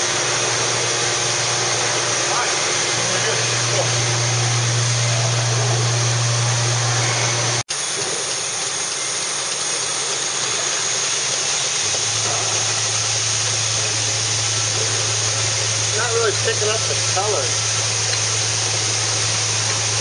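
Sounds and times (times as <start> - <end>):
factory machinery rushing: 0.0 - 20.0
machinery low hum: 0.0 - 20.0.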